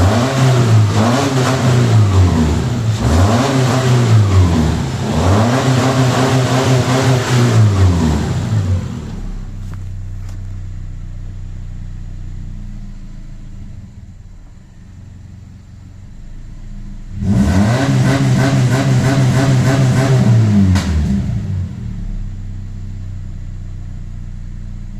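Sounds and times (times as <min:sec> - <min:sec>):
car engine revving and idling: 0:00.0 - 0:24.9.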